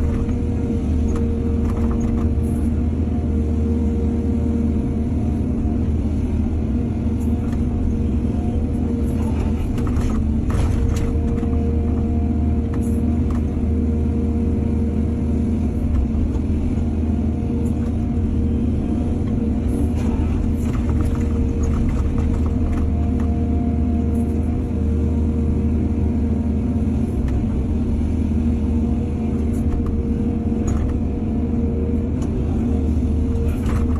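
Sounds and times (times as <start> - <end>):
excavator diesel engine rumbling: 0.0 - 33.9.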